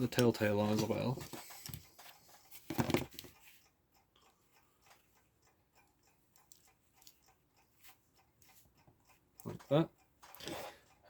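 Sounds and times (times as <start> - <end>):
electric clock ticking: 0.0 - 11.0.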